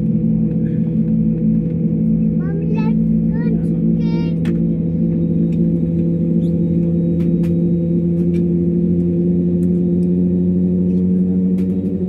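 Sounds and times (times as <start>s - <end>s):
airliner jet engines idling: 0.0s - 12.0s.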